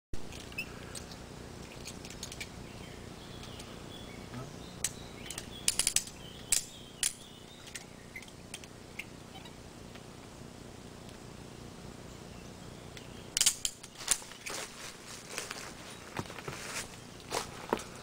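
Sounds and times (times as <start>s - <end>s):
birds chirping faintly: 0.2s - 18.0s.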